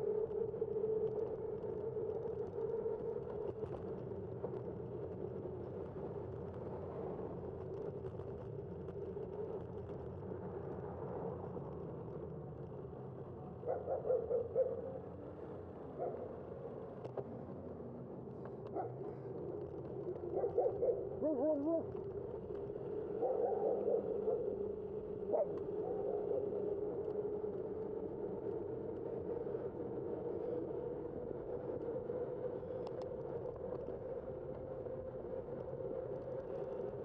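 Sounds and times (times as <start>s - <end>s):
bicycle road and wind noise: 0.0s - 37.0s.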